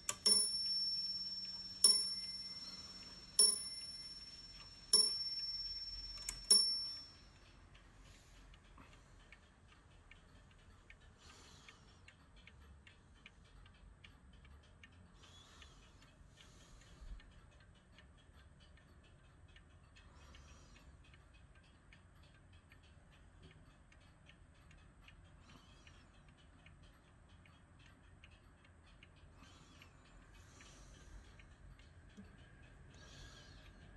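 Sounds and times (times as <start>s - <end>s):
pendulum clock ticking: 0.0s - 33.9s.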